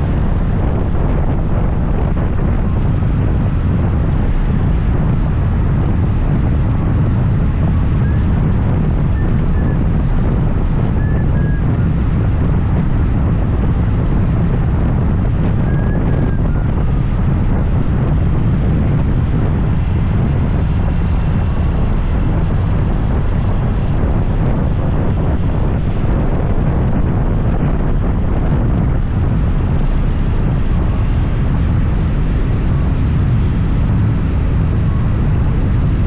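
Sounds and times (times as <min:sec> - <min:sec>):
scooter engine and road noise: 0:00.0 - 0:36.0
wind rumble on microphone: 0:00.0 - 0:36.0.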